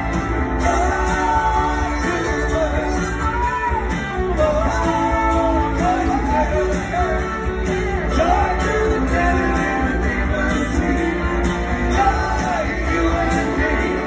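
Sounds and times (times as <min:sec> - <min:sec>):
lead vocal singing: 0:00.0 - 0:14.0
live rock band playing: 0:00.0 - 0:14.0.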